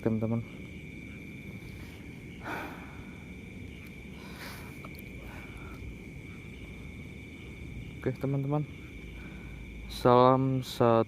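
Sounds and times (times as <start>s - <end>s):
night insects droning: 0.0s - 11.0s.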